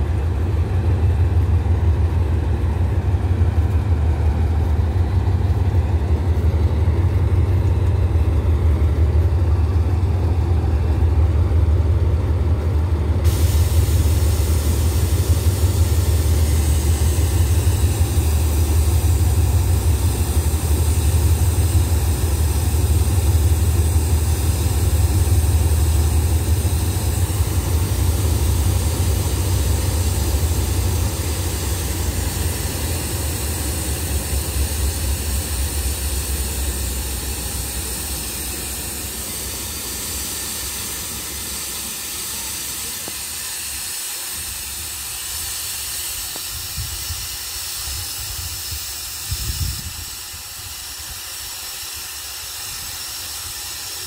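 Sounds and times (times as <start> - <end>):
locomotive engine rumble: 0.0 - 52.0
steady hiss: 0.0 - 54.0.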